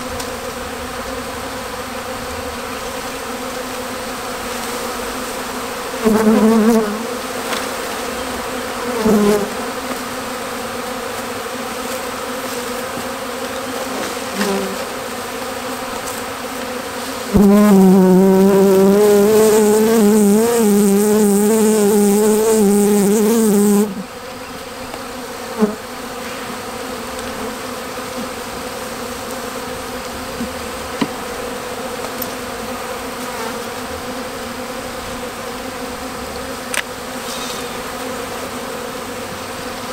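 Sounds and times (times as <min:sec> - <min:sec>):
bee swarm buzzing: 0:00.0 - 0:39.9
single bee buzzing past microphone: 0:00.0 - 0:39.9.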